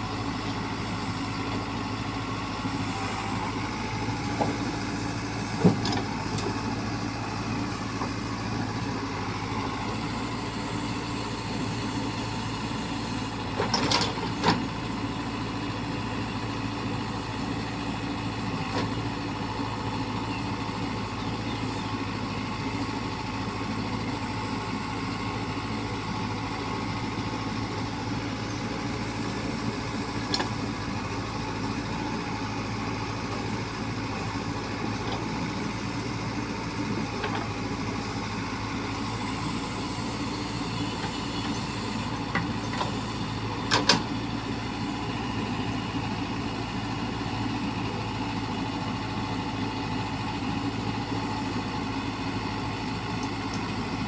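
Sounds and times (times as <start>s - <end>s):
heavy vehicle engine idling: 0.0s - 54.0s.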